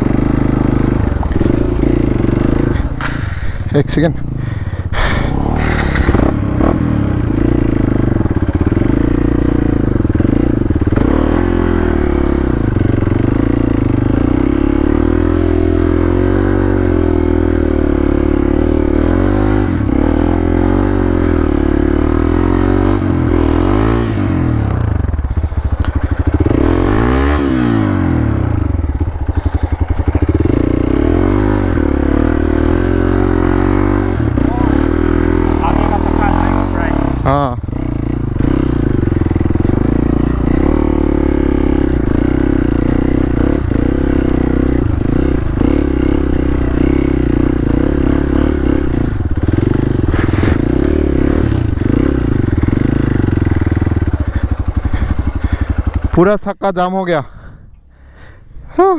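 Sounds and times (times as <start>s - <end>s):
motorcycle engine revving: 0.0s - 56.6s.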